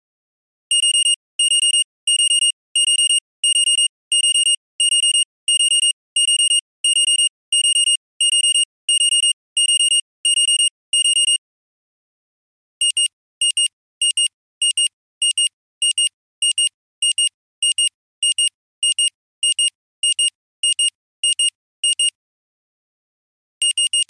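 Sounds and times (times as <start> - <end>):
digital alarm clock beeping: 0.7 - 11.4, 12.8 - 22.2, 23.6 - 24.0.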